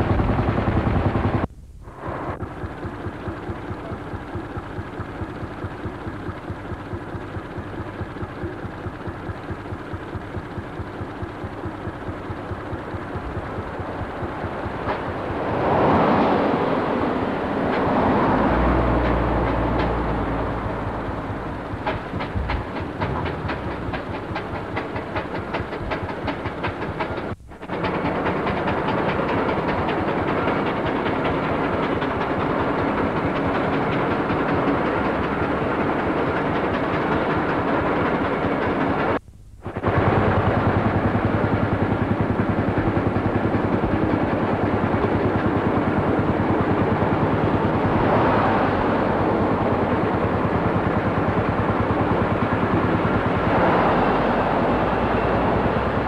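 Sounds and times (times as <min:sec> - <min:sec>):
engine running rhythmically: 0:00.0 - 0:56.0.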